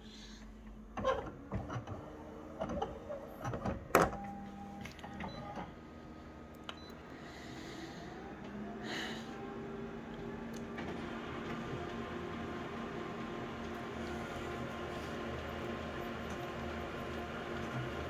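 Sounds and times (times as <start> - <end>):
copier motor hum: 0.5 - 18.0.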